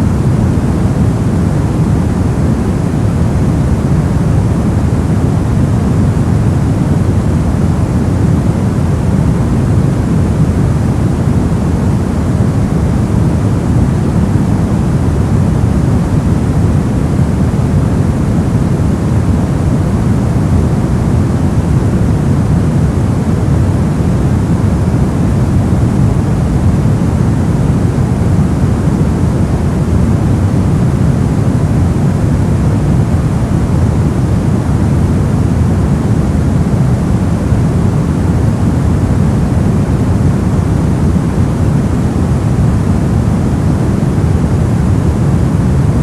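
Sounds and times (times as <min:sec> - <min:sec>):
deep electronic white noise: 0:00.0 - 0:46.0.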